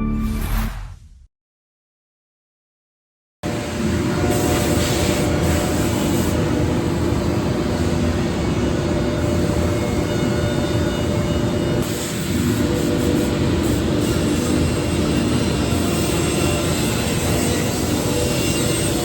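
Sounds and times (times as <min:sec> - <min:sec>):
cnc wood router running: 0:03.5 - 0:19.0.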